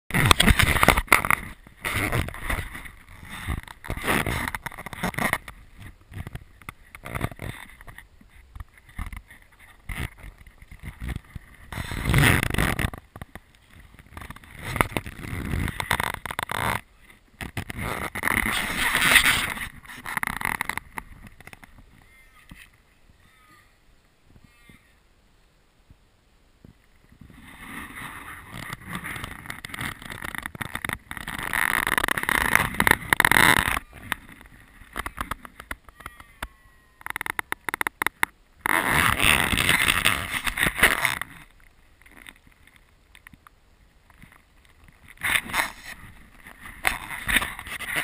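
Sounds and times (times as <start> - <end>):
tent fabric and tarp rustling: 0.1 - 23.8, 26.7 - 37.9, 38.6 - 43.0, 44.0 - 48.0.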